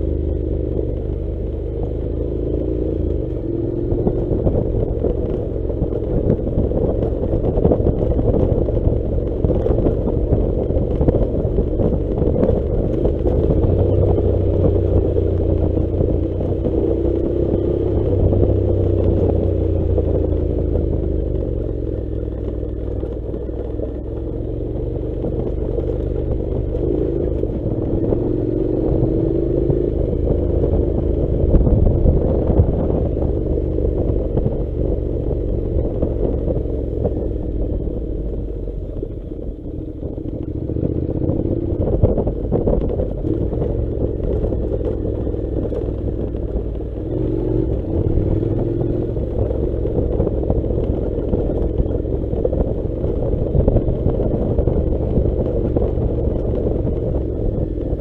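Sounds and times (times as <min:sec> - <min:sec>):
motorcycle engine at low revs: 0:00.0 - 0:58.0.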